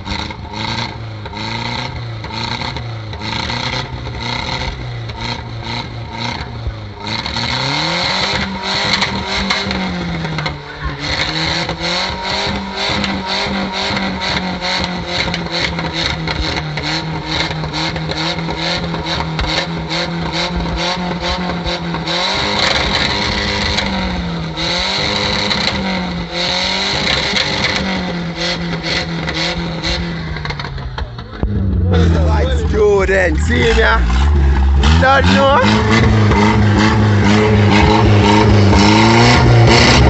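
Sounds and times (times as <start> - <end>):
car engine revving: 0.0 - 40.0
exhaust cracks: 0.0 - 40.0.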